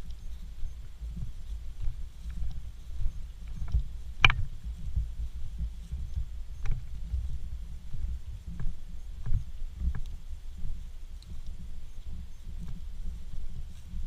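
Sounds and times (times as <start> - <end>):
footsteps through dry grass: 0.0 - 14.0
grass brushing and ticking: 0.0 - 14.0.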